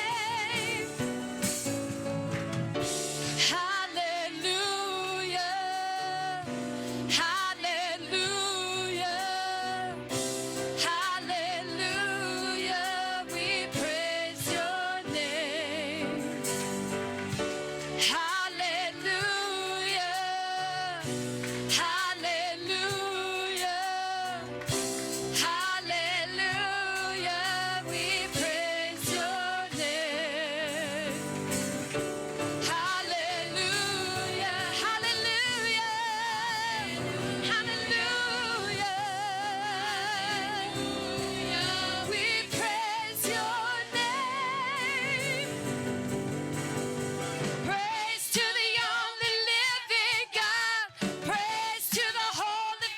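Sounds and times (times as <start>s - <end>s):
singers with vibrato: 0.0s - 1.4s, 3.2s - 16.8s, 17.9s - 31.8s, 32.4s - 46.1s, 47.6s - 52.9s
instrumental accompaniment: 0.0s - 48.5s.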